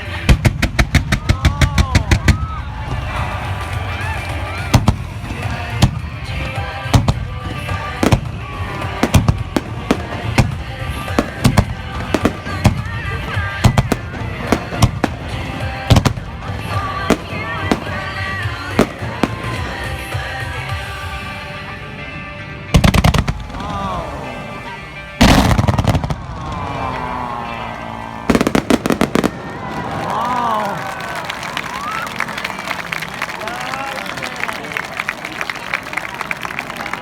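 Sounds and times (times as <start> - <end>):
fireworks bangs: 0.0 - 20.4, 22.7 - 32.5
music: 0.0 - 37.0.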